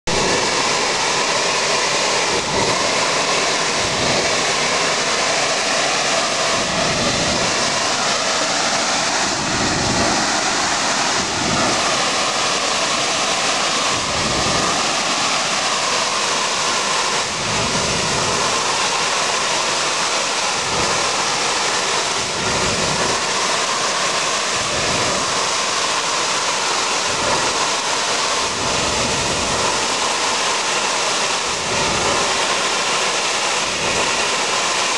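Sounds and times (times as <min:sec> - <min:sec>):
loud hiss of gas leak: 0:00.1 - 0:34.9.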